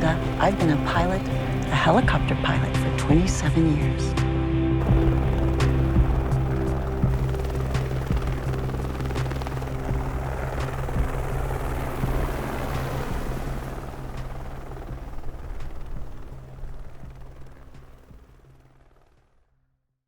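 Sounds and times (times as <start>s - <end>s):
background music: 0.0s - 18.4s
helicopter rotor chopping: 0.0s - 19.5s.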